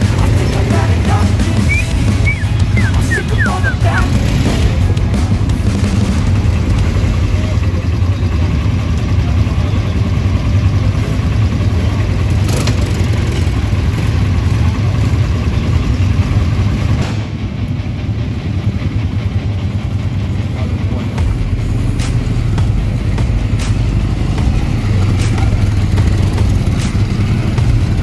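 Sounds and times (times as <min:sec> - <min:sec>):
quad bike engines rumbling: 0:00.0 - 0:28.0.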